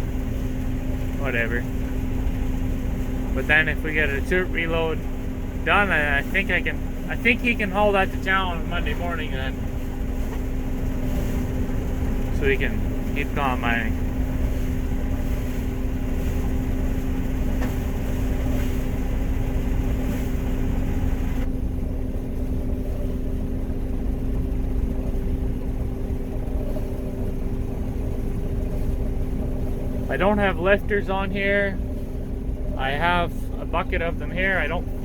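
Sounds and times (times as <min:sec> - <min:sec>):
combine harvester drone: 0:00.0 - 0:35.0.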